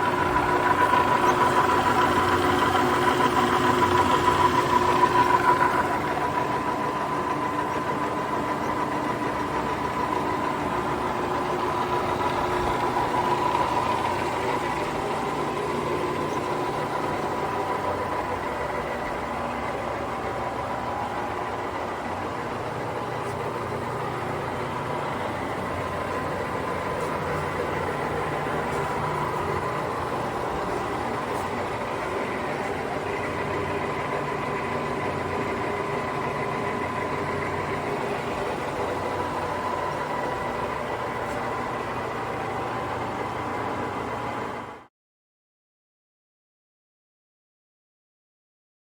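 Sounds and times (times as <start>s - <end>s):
lathe running with hum and whine: 0.0s - 44.9s.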